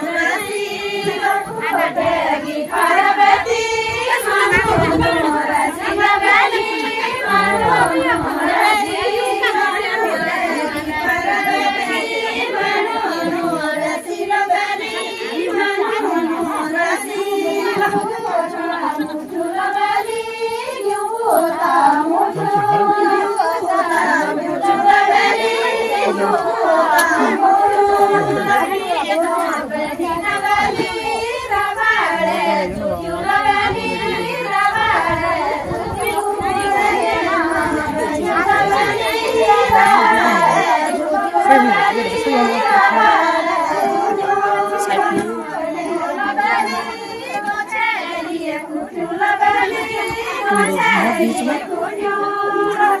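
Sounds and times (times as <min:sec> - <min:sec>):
women singing together: 0:00.0 - 0:53.0.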